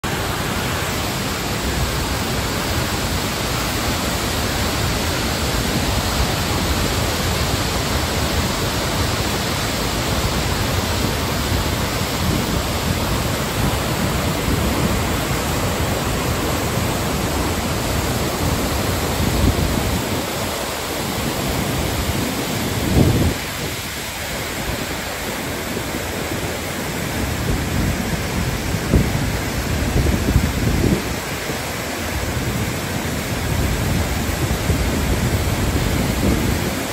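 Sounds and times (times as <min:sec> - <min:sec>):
waterfall roaring over rocks: 0:00.0 - 0:36.9.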